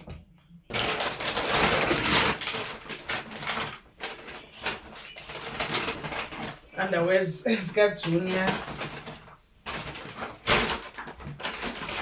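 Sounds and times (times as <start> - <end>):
packaging rustling and crackling: 0.7 - 12.0.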